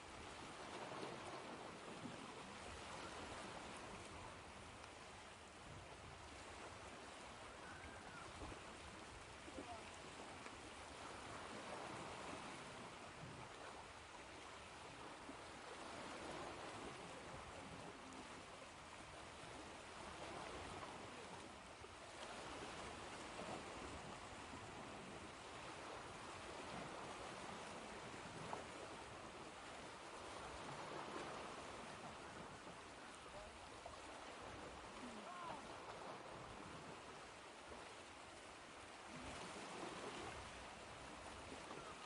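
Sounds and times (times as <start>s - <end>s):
ocean waves washing on shore: 0.0s - 42.0s.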